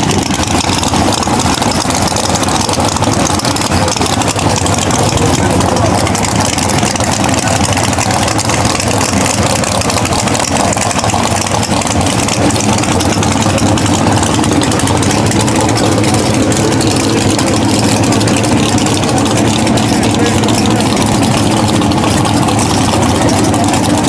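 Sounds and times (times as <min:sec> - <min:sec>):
car engines idling loudly: 0:00.0 - 0:24.0.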